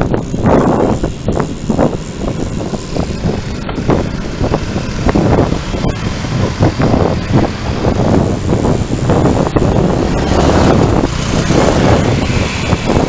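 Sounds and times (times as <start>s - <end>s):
tyres humming on asphalt: 0.0s - 13.0s
wind buffeting microphone: 0.0s - 13.0s.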